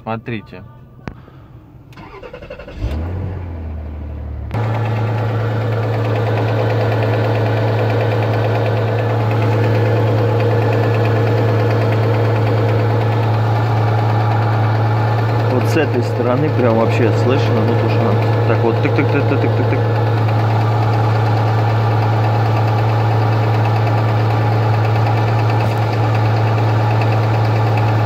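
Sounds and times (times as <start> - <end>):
car engine idling: 0.0 - 28.0
low hum: 0.0 - 28.0
rapid light engine ticking: 4.5 - 28.0.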